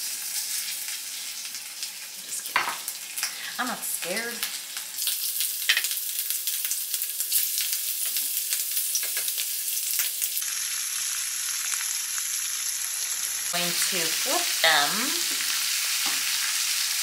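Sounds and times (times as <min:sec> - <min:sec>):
shrimp sizzling in oil: 0:00.0 - 0:17.0.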